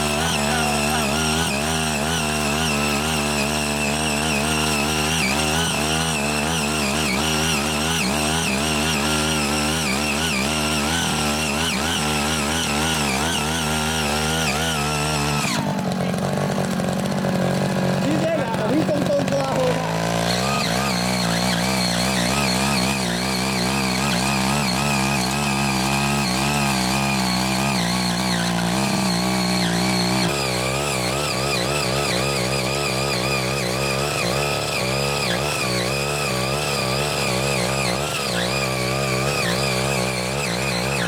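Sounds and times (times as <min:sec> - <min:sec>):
power tiller engine under load: 0:00.0 - 0:41.0
tines digging through soil: 0:00.0 - 0:41.0.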